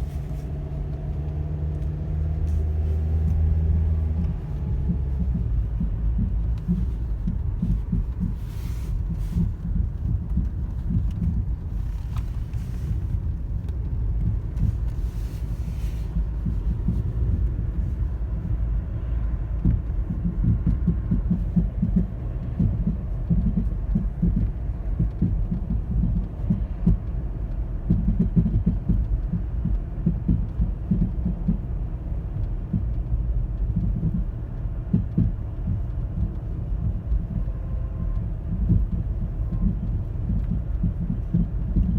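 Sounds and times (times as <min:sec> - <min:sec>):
car thumping popping noise: 0:00.0 - 0:41.9.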